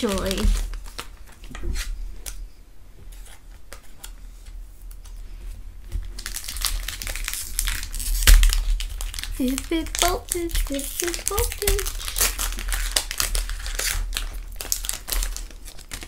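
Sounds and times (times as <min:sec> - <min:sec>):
plastic and foil crinkling: 0:00.0 - 0:02.4, 0:03.1 - 0:16.0.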